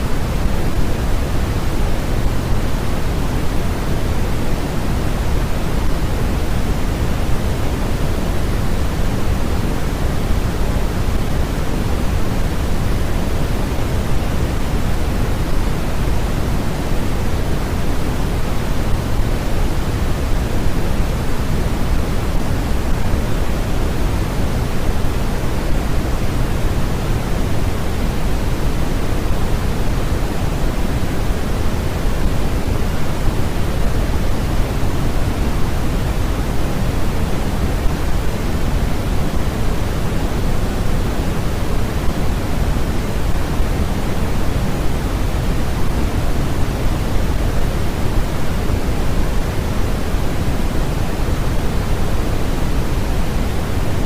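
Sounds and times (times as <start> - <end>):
steady rushing noise hiss: 0.0 - 54.0.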